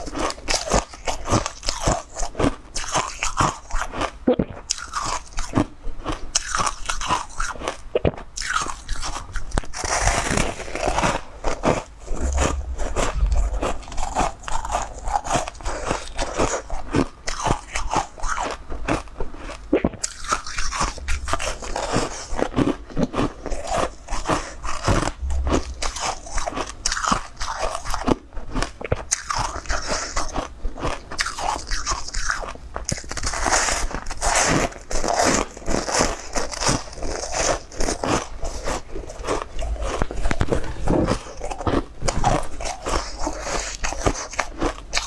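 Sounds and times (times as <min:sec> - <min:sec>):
crunchy bun chewing: 0:00.0 - 0:45.0.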